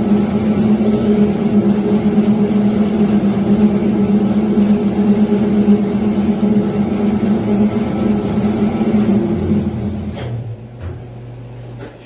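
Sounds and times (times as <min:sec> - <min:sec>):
dough mixer motor hum: 0:00.0 - 0:10.4.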